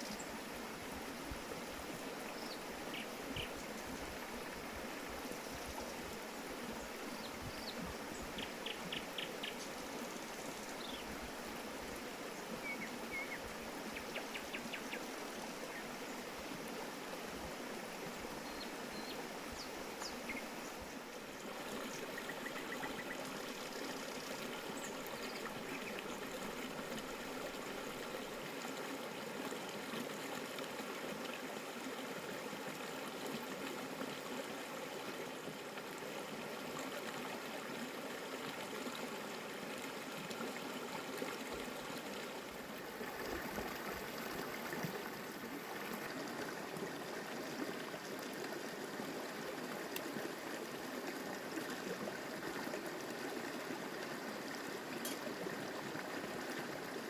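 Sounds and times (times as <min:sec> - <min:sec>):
stream rushing and trickling: 0:00.0 - 0:57.0.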